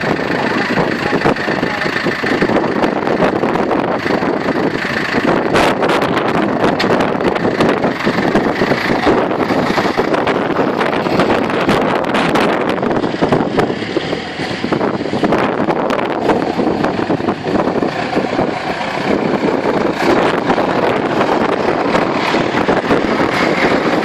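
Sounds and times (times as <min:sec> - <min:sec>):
tractor engines running: 0:00.0 - 0:24.0
wind buffeting microphone: 0:00.0 - 0:24.0.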